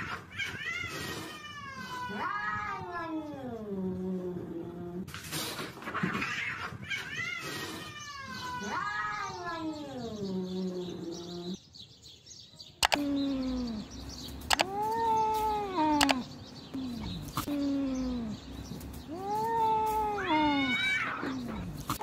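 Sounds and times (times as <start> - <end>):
cats yowling: 0.0 - 5.0, 6.0 - 11.6, 14.5 - 22.0.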